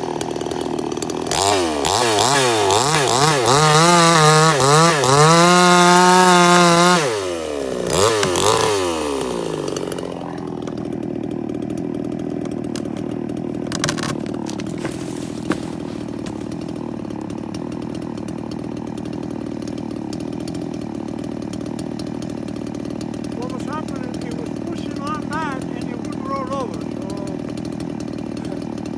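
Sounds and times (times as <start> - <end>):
chainsaw engine revving and idling: 0.0 - 28.9.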